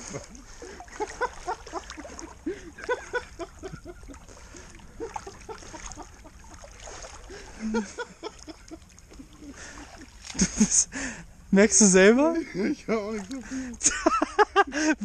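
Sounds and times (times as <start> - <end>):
water splashing and gurgling: 0.0 - 14.4.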